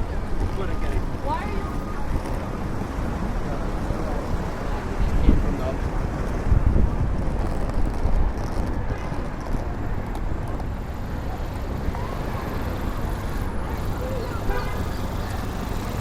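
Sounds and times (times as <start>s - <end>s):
rumble of passing cars: 0.0s - 16.0s.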